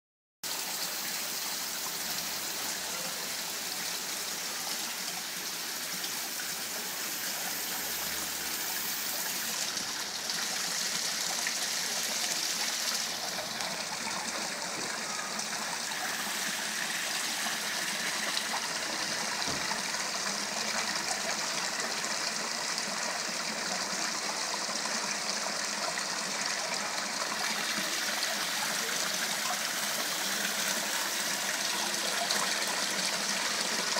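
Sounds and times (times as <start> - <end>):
fountain water splashing over rocks: 0.5 - 33.9.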